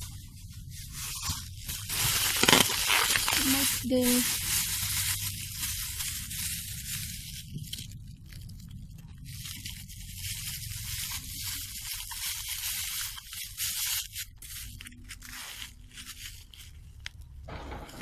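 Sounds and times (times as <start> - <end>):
plastic bag crinkling: 0.0 - 17.5.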